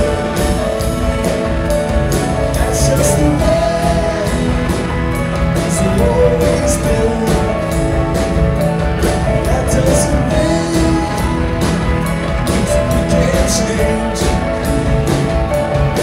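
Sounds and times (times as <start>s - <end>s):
bass guitar: 0.0s - 16.0s
drums: 0.0s - 16.0s
electric guitars: 0.0s - 16.0s
keyboards: 0.0s - 16.0s.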